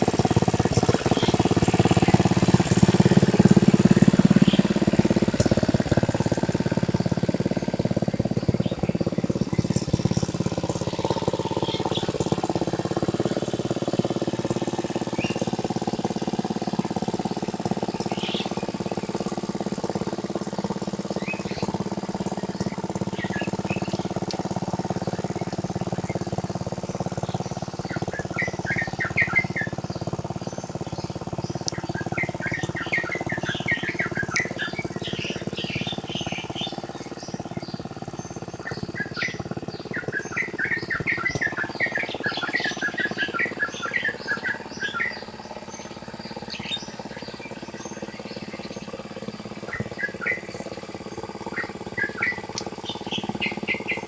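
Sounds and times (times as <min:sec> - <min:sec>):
birds chirping: 0:00.0 - 0:54.0
tractor engine running: 0:00.0 - 0:54.0.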